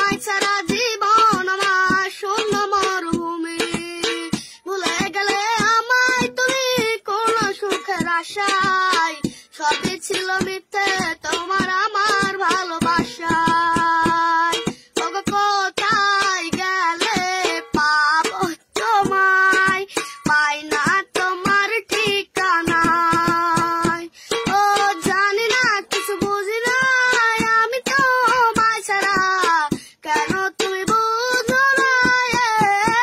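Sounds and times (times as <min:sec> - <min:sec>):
boy singing: 0:00.0 - 0:33.0.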